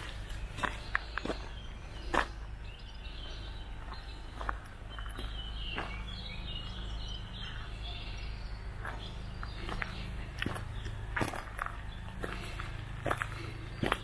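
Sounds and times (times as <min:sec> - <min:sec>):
birds chirping: 0:00.0 - 0:14.0
footsteps crunching on gravel: 0:00.0 - 0:14.0
low outdoor rumble: 0:00.0 - 0:14.0.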